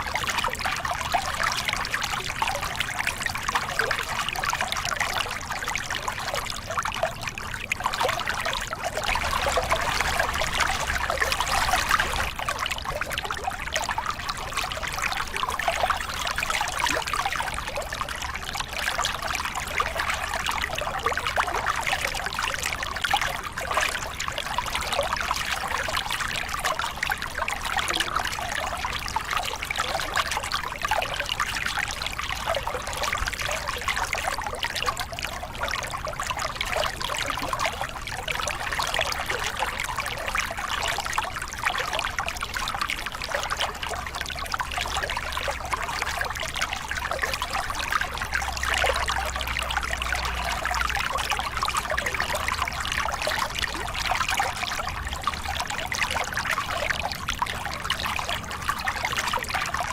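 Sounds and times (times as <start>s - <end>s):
water splashing over rocks: 0.0s - 59.9s.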